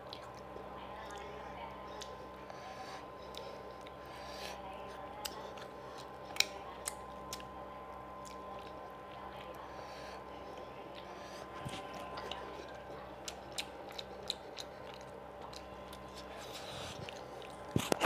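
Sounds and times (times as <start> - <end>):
chewing and mouth smacks: 0.0 - 1.3, 1.9 - 2.4, 3.2 - 4.0, 5.2 - 9.6, 10.5 - 18.0
faint steady hum: 0.0 - 18.0.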